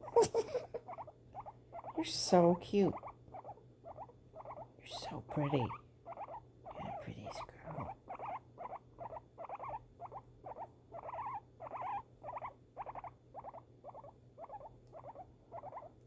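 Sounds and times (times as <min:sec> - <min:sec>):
guinea pig calling: 0:00.0 - 0:16.0.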